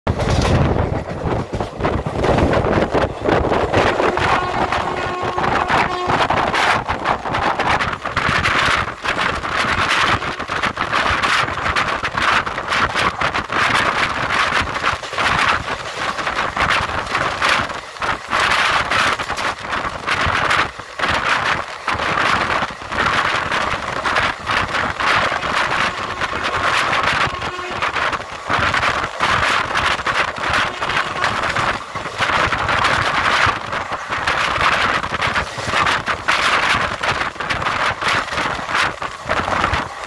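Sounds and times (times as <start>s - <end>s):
train wheels clattering on rails: 0.1s - 40.0s
wind rushing on microphone: 0.1s - 40.0s.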